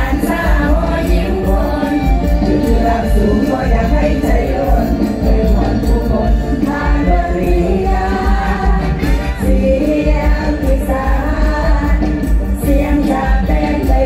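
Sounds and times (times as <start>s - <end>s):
women singing together: 0.0s - 14.0s.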